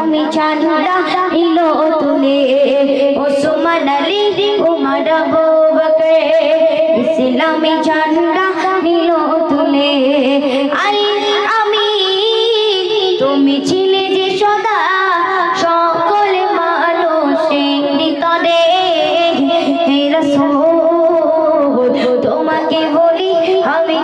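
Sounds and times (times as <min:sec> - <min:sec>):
girl singing devotional song: 0:00.0 - 0:24.0.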